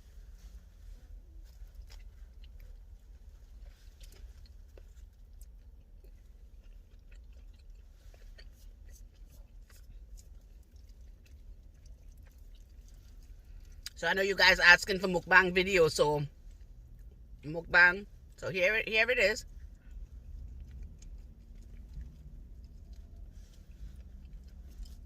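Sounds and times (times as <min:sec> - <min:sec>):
chewing with mouth clicks: 0:00.0 - 0:25.0
steady low hum: 0:00.0 - 0:25.0.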